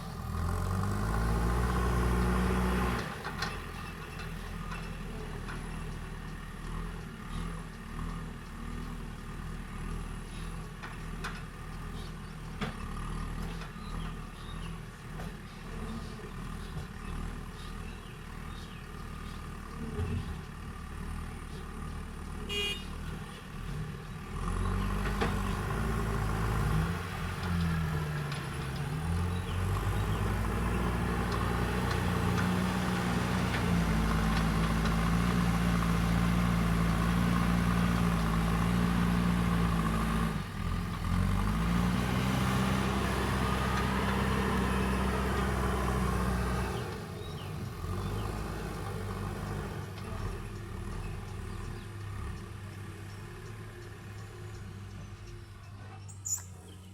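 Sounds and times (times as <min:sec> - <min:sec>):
diesel engine running under load: 0:00.0 - 0:56.9.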